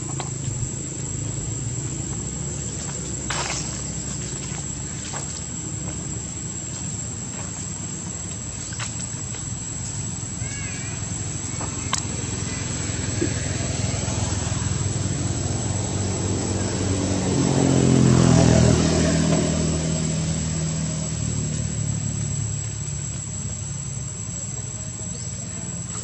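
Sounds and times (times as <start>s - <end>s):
motor vehicle engine passing: 0.0s - 7.6s, 11.1s - 24.3s.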